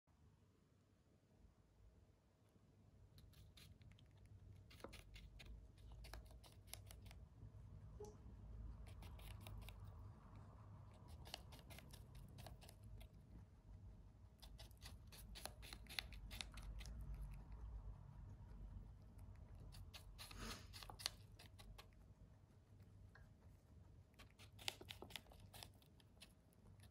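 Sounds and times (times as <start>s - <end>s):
rabbit crunching apple: 3.0s - 7.8s, 8.5s - 26.9s.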